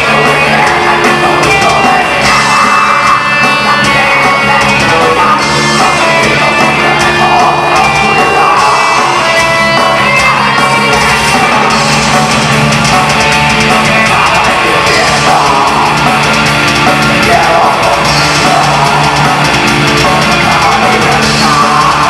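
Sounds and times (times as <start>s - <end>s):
bass guitar: 0.0s - 22.0s
drums: 0.0s - 22.0s
electric guitar: 0.0s - 22.0s
person singing: 0.0s - 22.0s.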